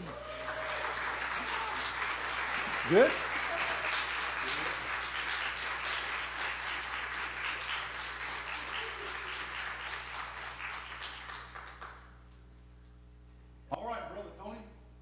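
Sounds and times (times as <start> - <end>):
congregation applauding: 0.0 - 12.2.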